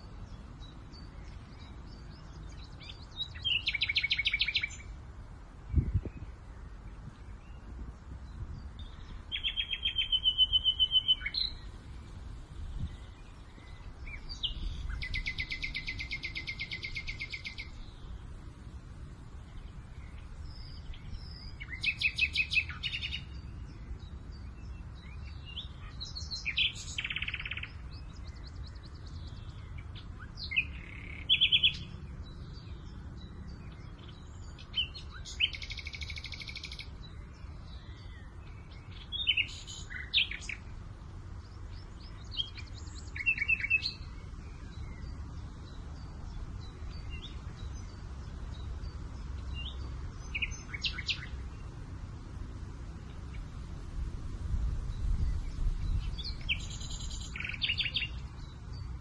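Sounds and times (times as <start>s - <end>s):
birds singing and chirping: 0.0s - 5.0s, 5.6s - 59.0s
low rumble of breeze: 0.0s - 59.0s.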